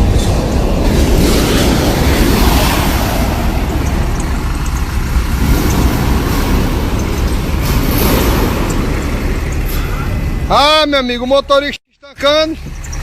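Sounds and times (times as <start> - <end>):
truck engine rumbling under load: 0.0 - 13.0.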